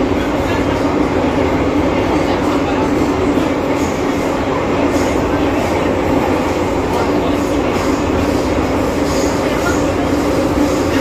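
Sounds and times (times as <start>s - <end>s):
constant train hum: 0.0s - 11.0s
train wheels rumbling on rail: 0.0s - 11.0s.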